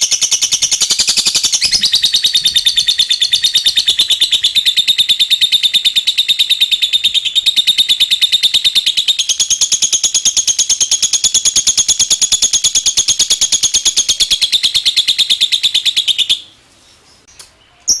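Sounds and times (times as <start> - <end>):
lovebird chirping rapidly: 0.0 - 18.0.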